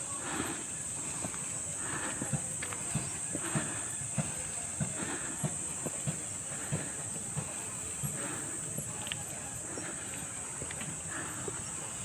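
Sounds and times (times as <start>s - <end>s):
heavy breathing: 0.0s - 12.0s
footsteps on concrete: 0.2s - 11.8s.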